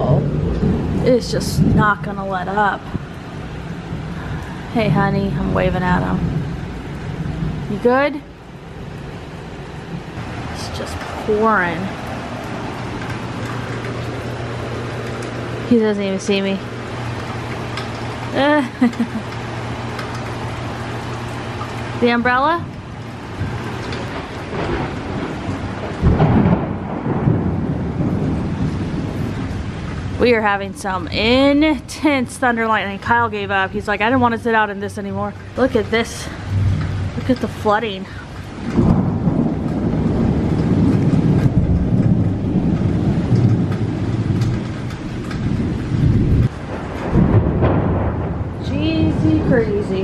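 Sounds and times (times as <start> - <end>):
heavy rain pouring: 0.0 - 50.0
thunder rumbling: 0.0 - 50.0.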